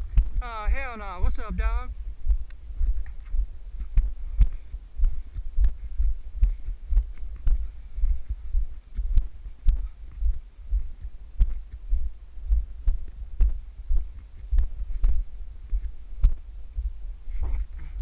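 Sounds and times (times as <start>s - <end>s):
footsteps on trail: 0.0s - 18.0s
wind rumbling on microphone: 0.0s - 18.0s.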